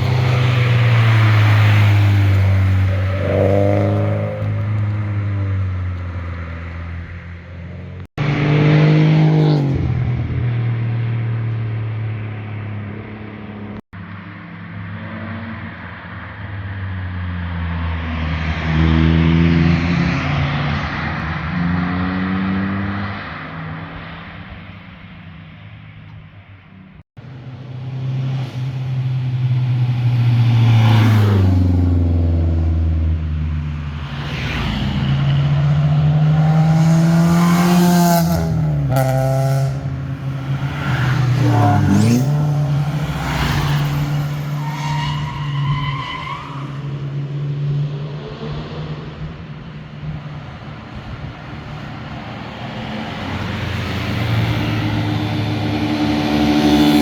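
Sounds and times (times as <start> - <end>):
performance cars passing: 0.0 - 25.9, 27.2 - 57.0.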